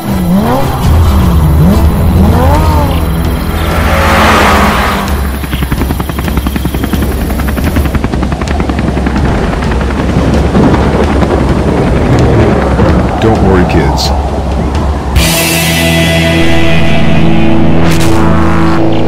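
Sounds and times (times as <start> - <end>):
low hum: 0.0 - 13.3, 14.1 - 19.0
helicopter rotor chopping: 0.0 - 15.4.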